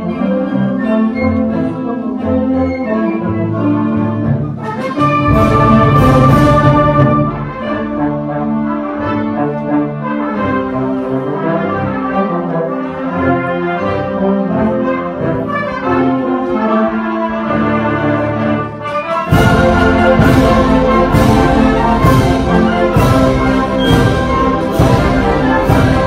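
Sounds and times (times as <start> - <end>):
wind band playing a reel: 0.0 - 26.0.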